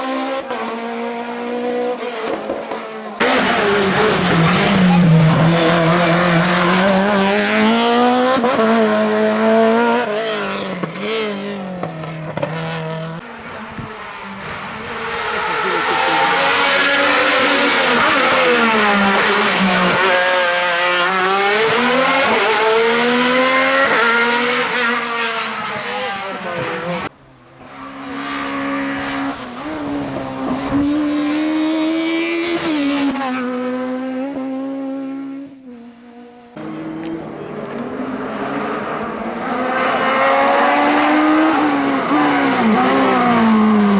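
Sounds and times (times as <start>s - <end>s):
race car engine at full throttle: 0.0s - 43.9s.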